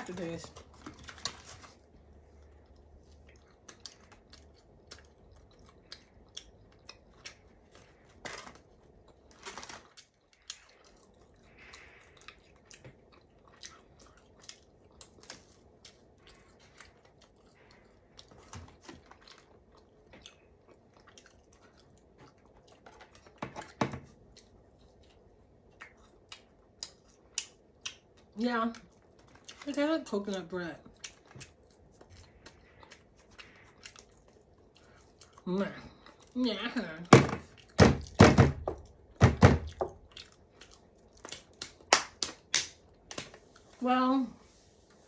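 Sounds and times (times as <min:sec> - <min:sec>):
chewing with wet mouth clicks: 0:01.8 - 0:36.4, 0:39.7 - 0:43.2.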